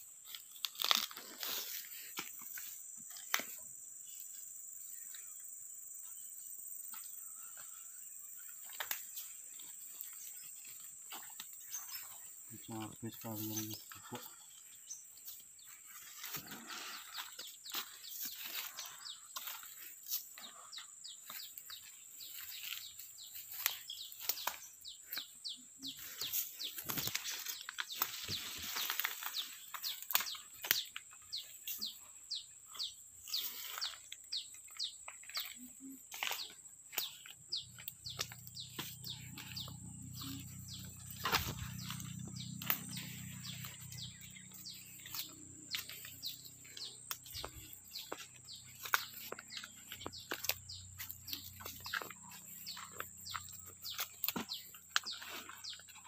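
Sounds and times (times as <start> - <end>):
high insect drone: 0.0 - 56.0
small birds chirping: 0.0 - 56.0.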